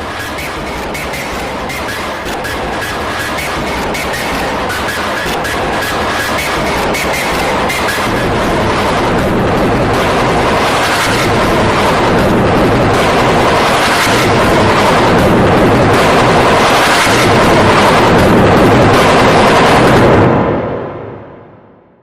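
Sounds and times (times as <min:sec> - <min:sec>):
distorted overdriven noise: 0:00.0 - 0:22.0.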